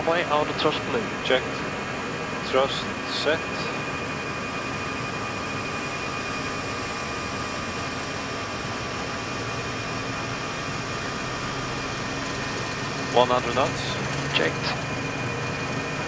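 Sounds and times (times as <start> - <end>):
jet engines rumbling on takeoff: 0.0 - 16.0
thin steady whining tones: 0.0 - 16.0.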